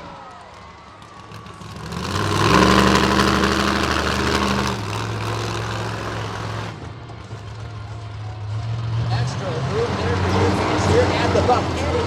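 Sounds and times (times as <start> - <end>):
monster truck engine revving: 0.1 - 7.6, 8.4 - 12.0.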